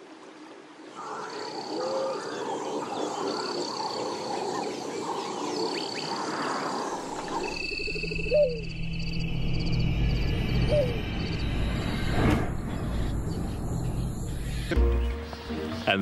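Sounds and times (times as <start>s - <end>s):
frogs calling: 0.9s - 15.9s.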